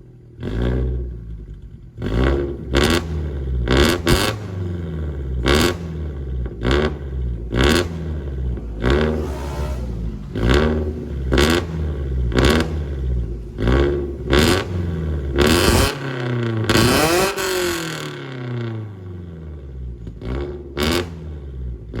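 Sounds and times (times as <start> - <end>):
car engine revving: 0.4 - 22.0.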